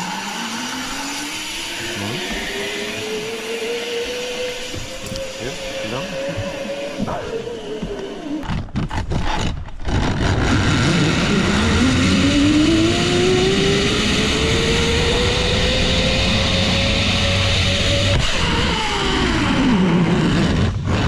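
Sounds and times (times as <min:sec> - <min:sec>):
zipline pulley whine: 0:00.0 - 0:21.0.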